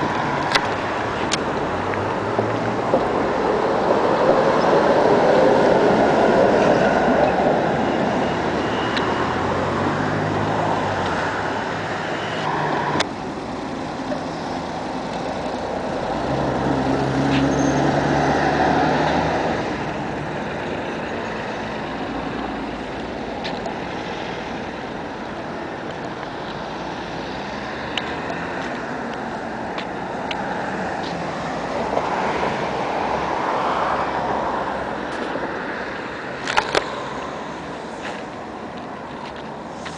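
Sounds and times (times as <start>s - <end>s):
cars passing: 0.0s - 39.9s.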